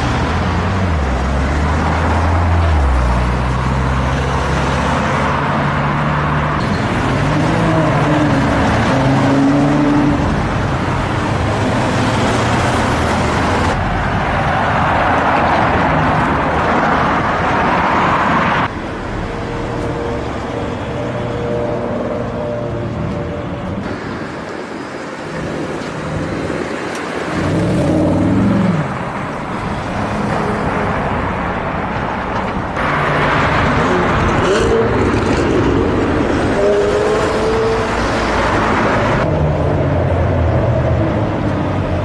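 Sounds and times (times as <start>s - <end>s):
traffic noise: 0.0s - 42.0s.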